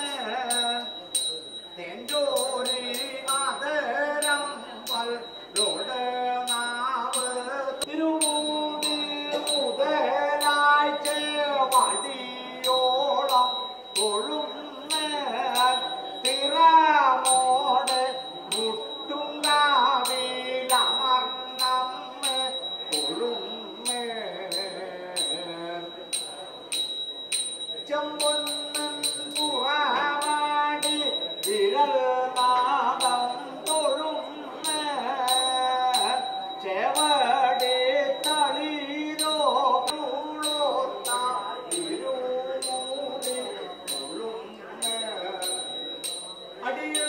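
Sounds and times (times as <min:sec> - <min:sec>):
person singing devotional melody: 0:00.0 - 0:47.0
small metal cymbals ringing: 0:00.0 - 0:47.0.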